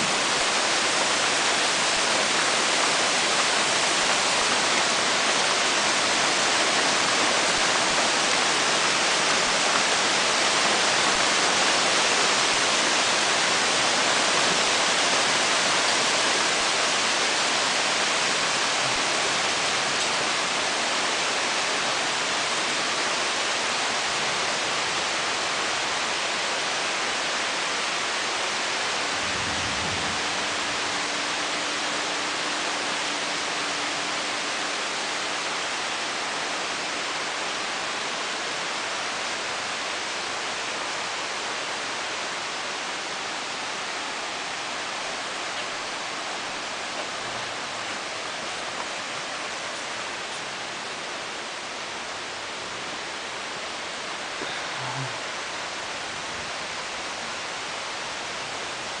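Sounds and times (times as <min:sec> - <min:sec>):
rain falling on trees: 0:00.0 - 0:59.0.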